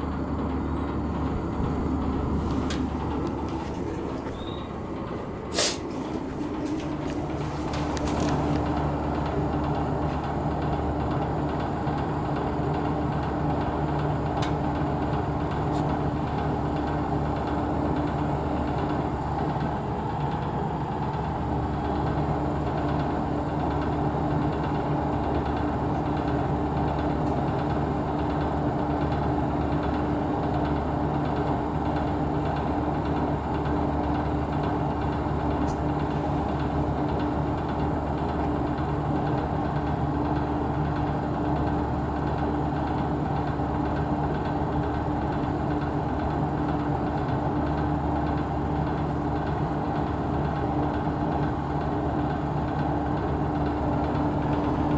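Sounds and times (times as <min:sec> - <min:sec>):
fan heater blower humming: 0:00.0 - 0:54.9.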